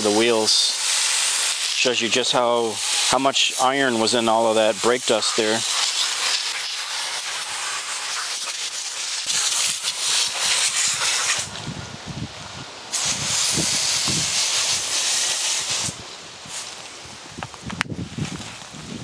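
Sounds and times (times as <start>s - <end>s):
water jet spraying hiss: 0.0s - 17.1s.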